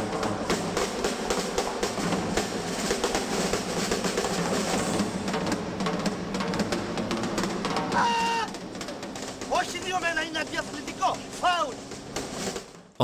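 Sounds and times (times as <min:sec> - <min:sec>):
fast percussive music: 0:00.0 - 0:13.0.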